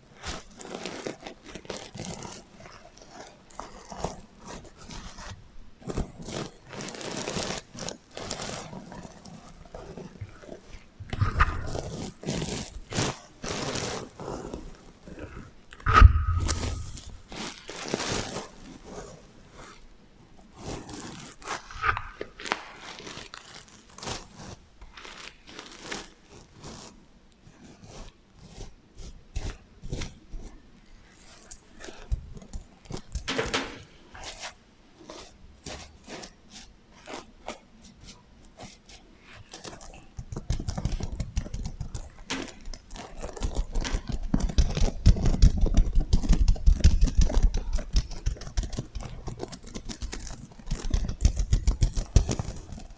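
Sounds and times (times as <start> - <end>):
sequins brushed by fingers: 0.0 - 19.8, 20.4 - 52.9.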